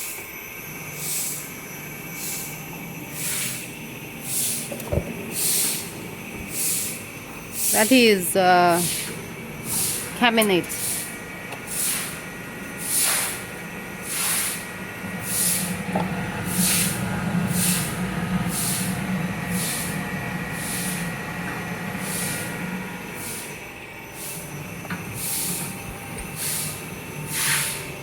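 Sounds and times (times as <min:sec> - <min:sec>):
knife grinding machine humming: 0:00.0 - 0:28.0.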